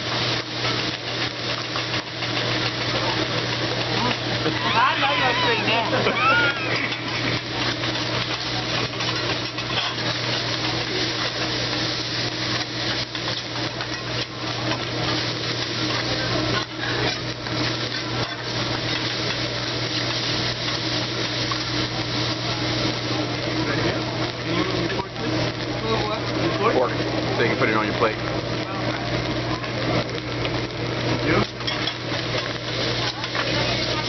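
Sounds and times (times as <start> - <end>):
rice sizzling on griddle: 0.0 - 34.0.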